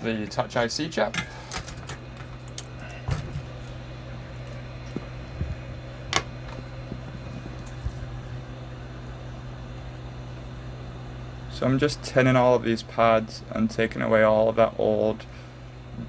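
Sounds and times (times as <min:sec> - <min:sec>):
fan hum: 0:00.0 - 0:16.0.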